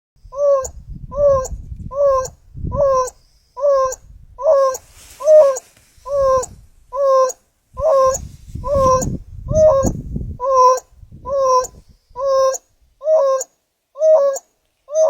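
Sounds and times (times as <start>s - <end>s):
wild dog hooting calls: 0.4s - 15.0s.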